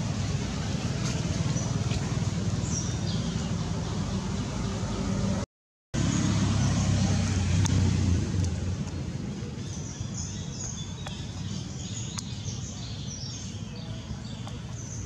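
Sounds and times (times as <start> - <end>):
birds chirping: 0.1 - 5.4, 6.0 - 15.0.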